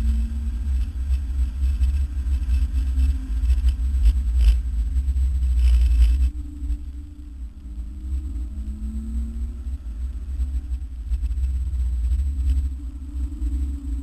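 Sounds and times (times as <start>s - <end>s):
car engine and road noise: 0.0s - 13.6s.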